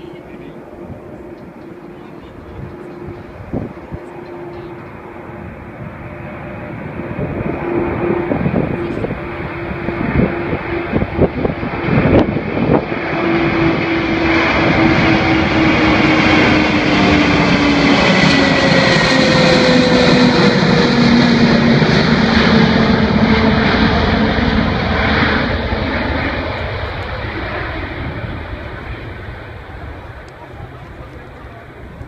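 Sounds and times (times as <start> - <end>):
jet aircraft flying past: 0.0 - 32.0.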